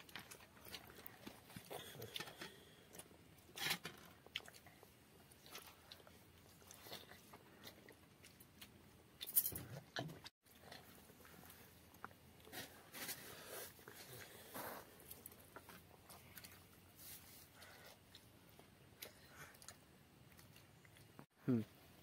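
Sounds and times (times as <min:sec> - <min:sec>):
child chewing: 0:00.0 - 0:21.3.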